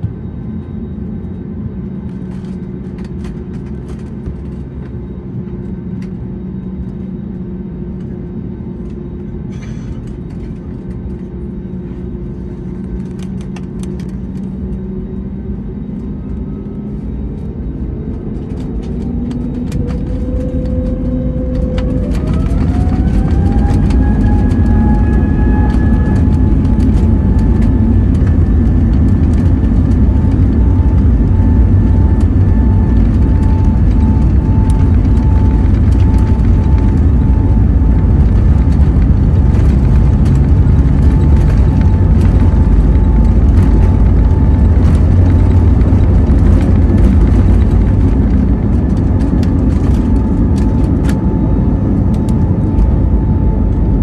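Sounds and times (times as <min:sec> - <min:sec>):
jet engines whining and roaring: 0:00.0 - 0:54.0.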